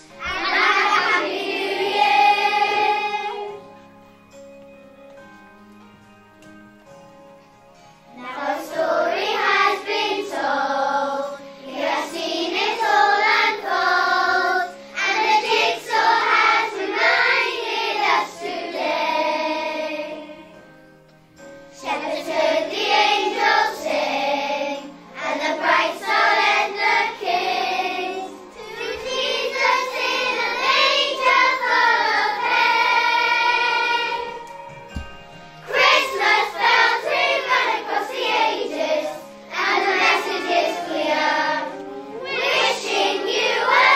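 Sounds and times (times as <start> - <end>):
children's choir singing: 0.0 - 3.8, 8.1 - 20.6, 21.7 - 43.9
musical accompaniment: 0.0 - 43.9.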